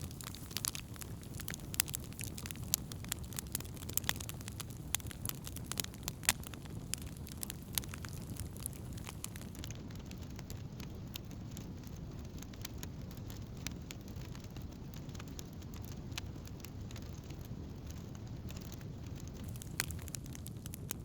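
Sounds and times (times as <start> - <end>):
low rumble of flames: 0.0 - 21.0
wood crackling and popping: 0.0 - 21.0.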